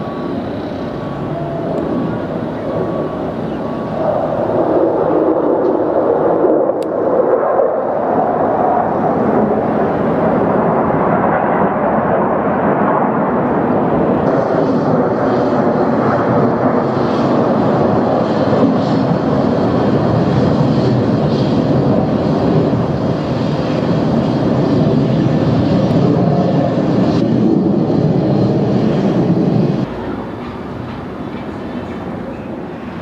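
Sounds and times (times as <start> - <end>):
jets passing overhead: 0.0 - 33.0.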